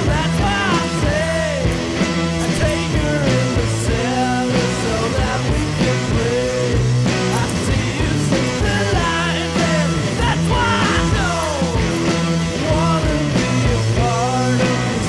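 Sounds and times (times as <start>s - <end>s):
background rock music: 0.0s - 15.0s.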